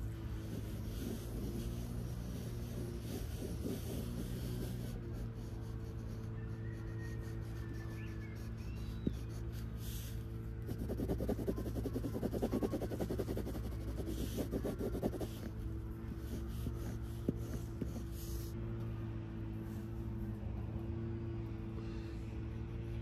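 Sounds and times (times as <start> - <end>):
pencil scratching on paper: 0.0 - 18.6
steady low hum: 0.0 - 23.0.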